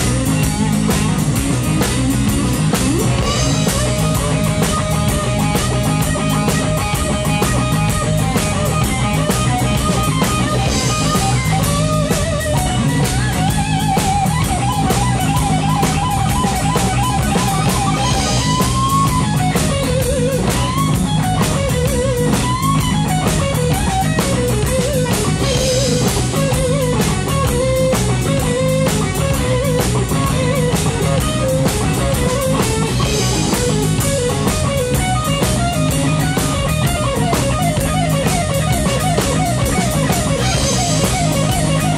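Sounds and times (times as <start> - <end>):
bass guitar: 0.0 - 41.9
drum kit: 0.0 - 41.9
electric guitar solo: 0.0 - 41.9.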